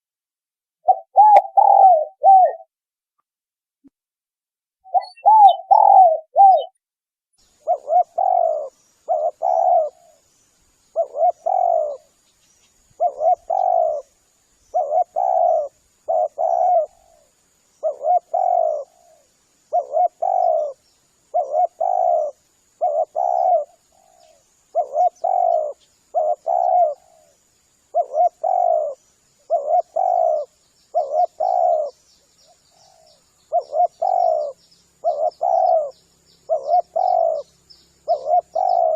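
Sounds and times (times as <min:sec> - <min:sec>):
dove cooing: 0:00.8 - 0:02.7, 0:04.9 - 0:06.8, 0:07.5 - 0:10.3, 0:10.9 - 0:12.2, 0:12.9 - 0:38.9.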